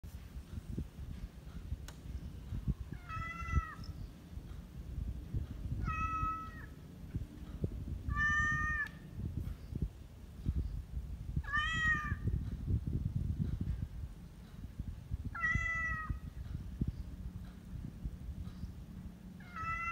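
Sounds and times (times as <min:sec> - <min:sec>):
low background rumble: 0:00.1 - 0:19.9.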